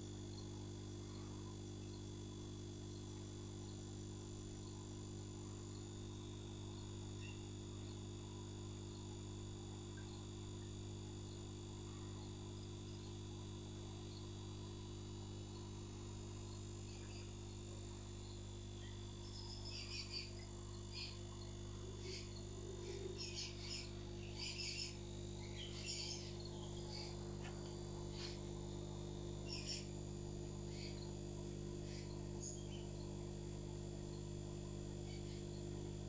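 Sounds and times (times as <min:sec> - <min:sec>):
aquarium equipment humming: 0:00.0 - 0:36.0.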